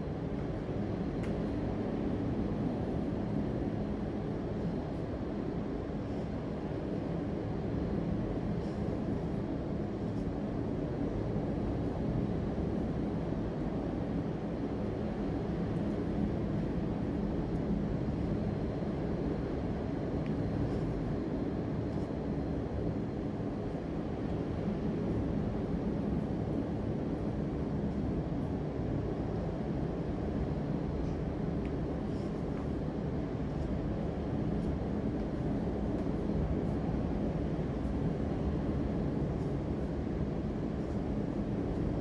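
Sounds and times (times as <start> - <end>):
low rumbling background noise: 0.0 - 42.0.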